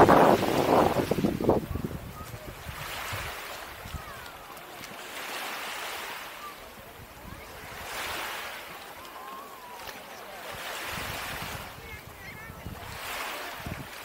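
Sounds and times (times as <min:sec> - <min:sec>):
small waves washing onto shore: 0:00.0 - 0:14.0.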